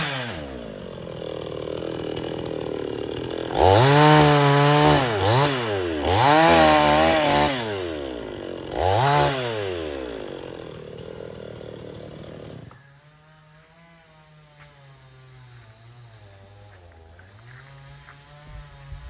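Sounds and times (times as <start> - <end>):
chainsaw engine revving and idling: 0.0 - 19.0.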